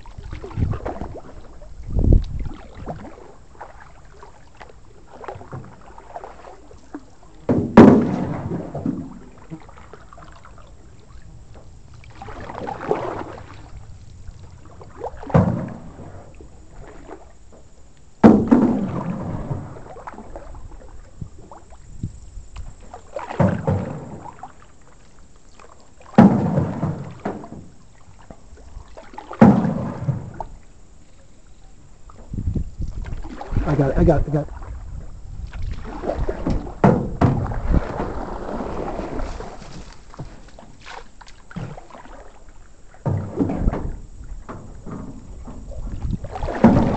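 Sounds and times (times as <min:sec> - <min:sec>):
paddle knocking metal canoe: 0:00.0 - 0:46.9
paddle strokes swishing water: 0:00.0 - 0:46.9.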